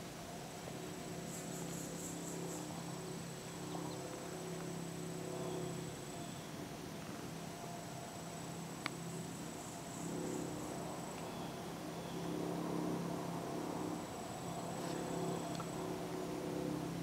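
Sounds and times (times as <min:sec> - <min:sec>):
insects calling: 0:00.1 - 0:17.0.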